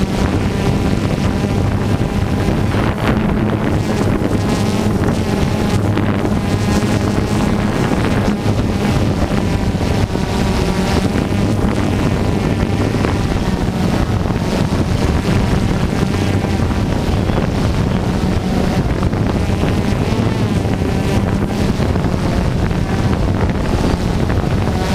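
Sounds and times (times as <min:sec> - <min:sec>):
radio-controlled car motors buzzing: 0:00.0 - 0:24.9
wind on microphone: 0:00.0 - 0:24.9.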